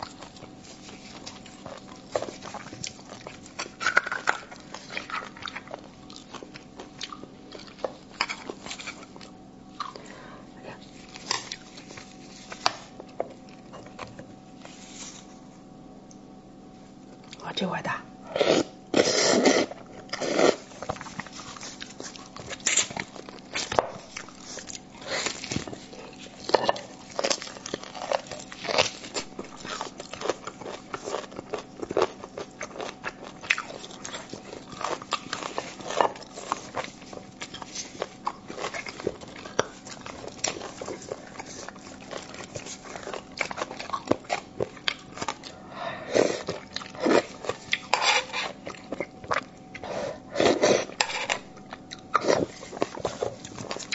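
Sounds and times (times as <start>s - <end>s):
wet slurping and chewing: 0.0s - 10.1s, 18.3s - 53.9s.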